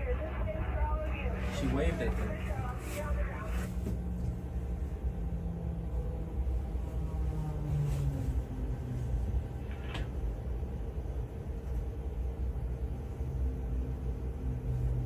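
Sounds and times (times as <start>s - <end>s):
low rumble and hum: 0.0s - 15.0s.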